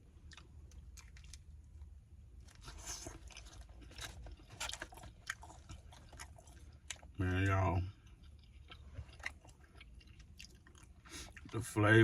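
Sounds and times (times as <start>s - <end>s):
person chewing food: 0.0s - 11.6s.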